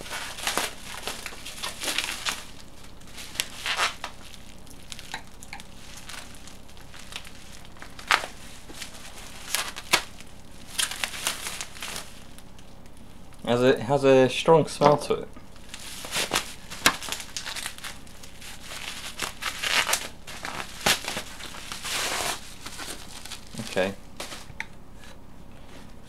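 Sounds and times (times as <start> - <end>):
packaging crinkling and rustling: 0.0 - 13.5, 15.5 - 24.6.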